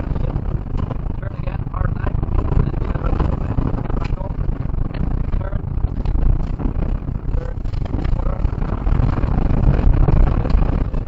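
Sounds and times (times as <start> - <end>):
rally car engine and tyre rumble: 0.0 - 11.0.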